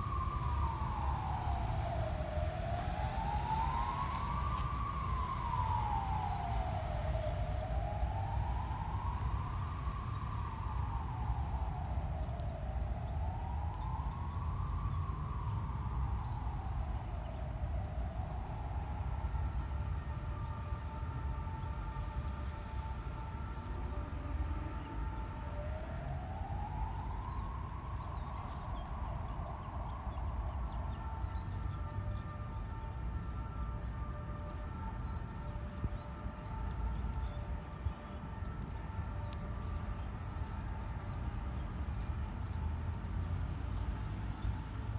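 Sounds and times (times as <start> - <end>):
siren wailing: 0.0 - 44.9
steady siren tone: 0.0 - 44.9.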